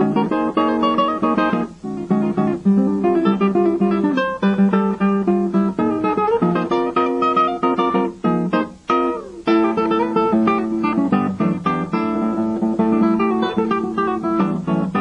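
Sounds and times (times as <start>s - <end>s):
classical guitar playing: 0.0s - 15.0s.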